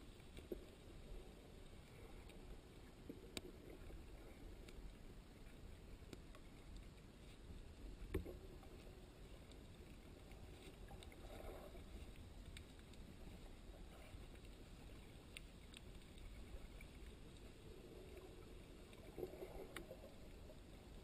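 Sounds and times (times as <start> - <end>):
low rumble of moving water: 0.0 - 21.0
faint clicks: 0.1 - 20.9.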